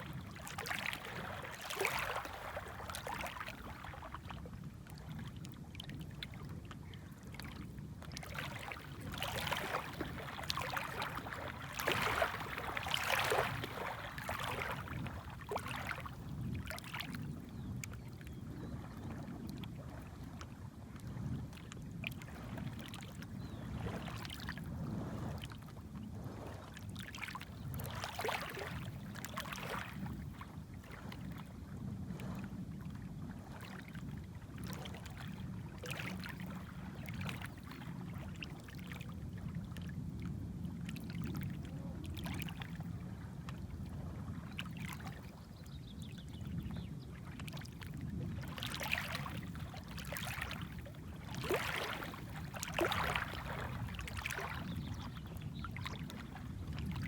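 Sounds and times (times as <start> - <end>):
low rumble of the sea: 0.0 - 57.0
small waves lapping at shore: 0.0 - 57.0.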